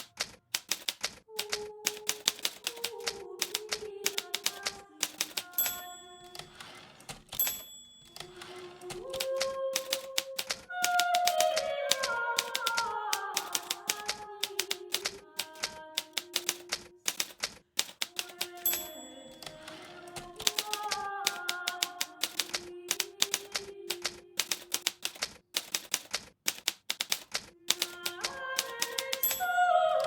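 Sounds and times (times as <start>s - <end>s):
typewriter bell ring: 0.0s - 23.5s, 24.4s - 29.7s
typewriter keys clacking: 0.0s - 29.6s.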